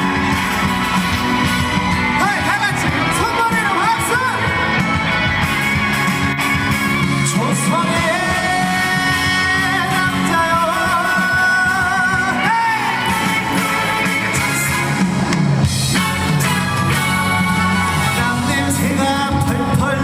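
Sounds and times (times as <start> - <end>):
band with guitar: 0.0 - 20.0.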